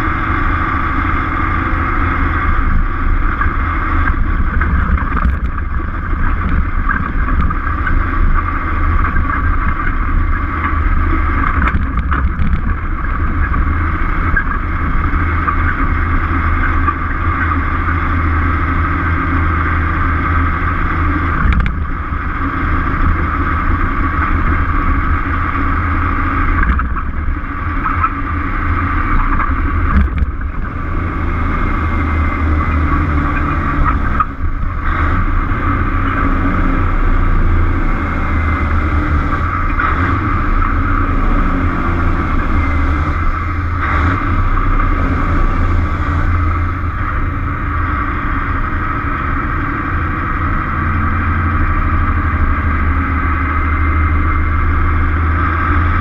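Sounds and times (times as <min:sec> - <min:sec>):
road and wind noise: 0:00.0 - 0:56.0
truck diesel engine running: 0:00.0 - 0:56.0.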